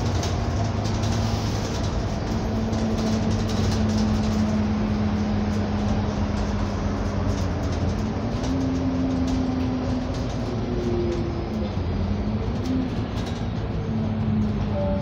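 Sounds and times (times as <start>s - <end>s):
light clicks and rattles: 0.0s - 14.7s
bus engine and road rumble: 0.0s - 15.0s.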